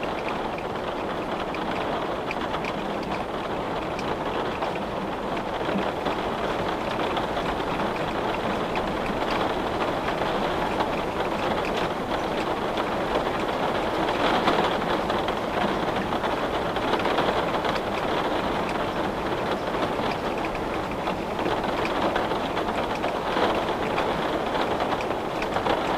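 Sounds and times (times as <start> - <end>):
rain hissing on a window: 0.0 - 25.9
raindrops ticking: 0.0 - 25.9.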